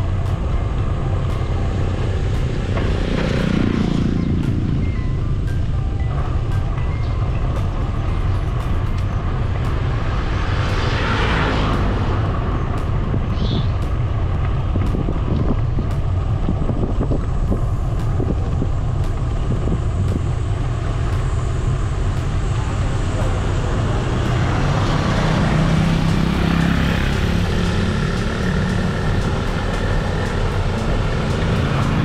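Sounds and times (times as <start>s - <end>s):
road noise: 0.0s - 32.0s
wind noise on microphone: 0.0s - 32.0s.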